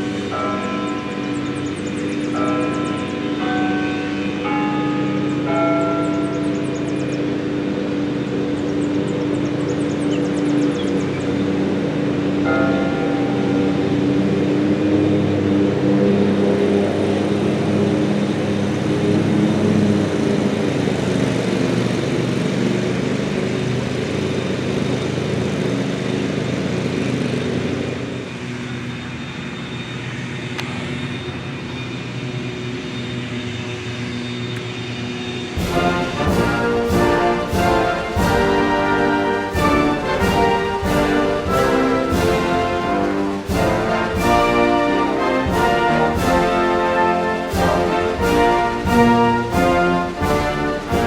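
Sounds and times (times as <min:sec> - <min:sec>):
engine drone: 0:00.0 - 0:51.0.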